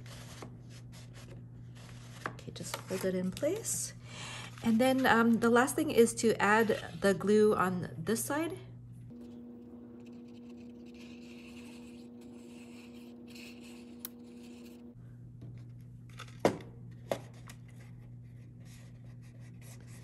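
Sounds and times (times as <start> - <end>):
low steady hum: 0.3 - 20.0.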